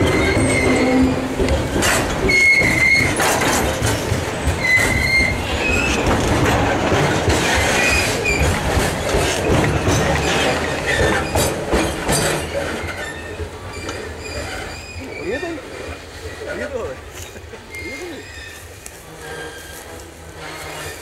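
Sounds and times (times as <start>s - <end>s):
high wheel squeals: 0.0s - 6.1s, 7.4s - 9.4s, 10.2s - 16.6s, 17.7s - 21.0s
train wheels clattering over rail joints: 0.0s - 21.0s.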